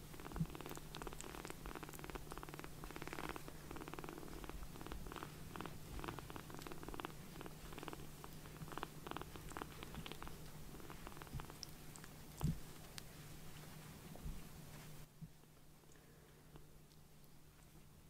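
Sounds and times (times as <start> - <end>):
kittens purring: 0.0 - 15.0.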